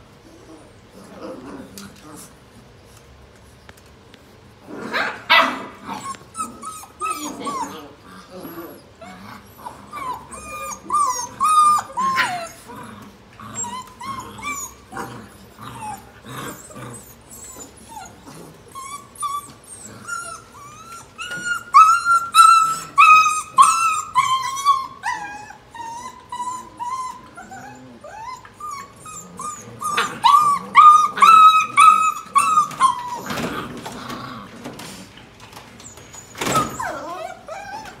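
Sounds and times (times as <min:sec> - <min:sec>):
puppies whining and yipping: 0:05.0 - 0:34.1, 0:35.5 - 0:38.0.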